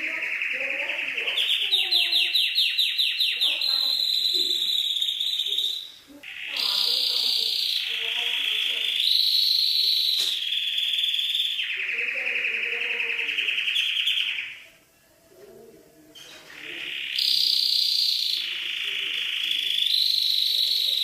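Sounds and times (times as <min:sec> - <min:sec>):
canary singing trills: 0:00.0 - 0:14.8, 0:16.2 - 0:21.0.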